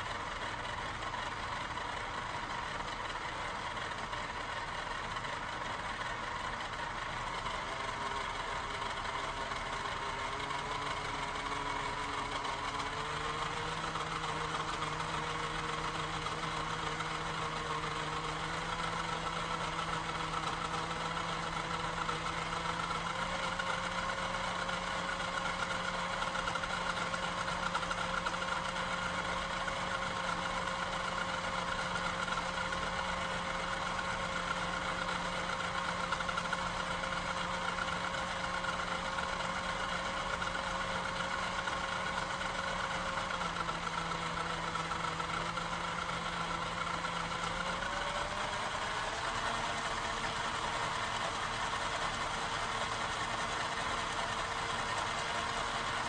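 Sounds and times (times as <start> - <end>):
engine hum: 0.0 - 56.0.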